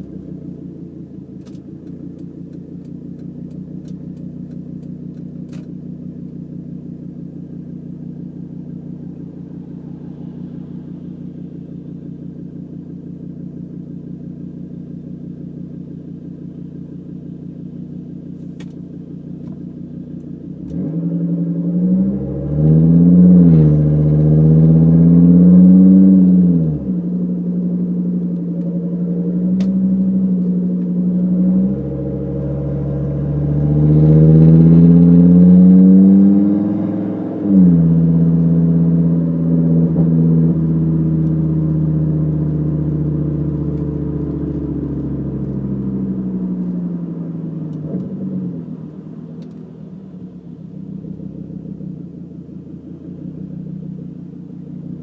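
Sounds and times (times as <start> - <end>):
car engine revving from inside cabin: 0.0 - 55.0.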